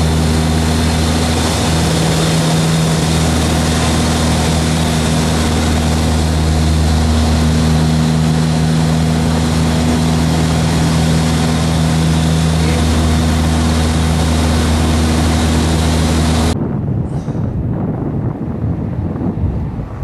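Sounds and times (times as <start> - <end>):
propeller engine drone: 0.0 - 20.0
wind gusting on microphone: 0.0 - 20.0.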